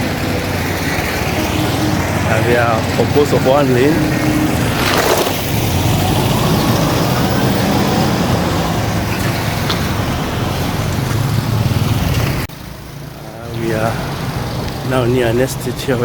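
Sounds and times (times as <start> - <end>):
road and wind noise: 0.0 - 16.0
vehicle engine rumble: 0.0 - 16.0.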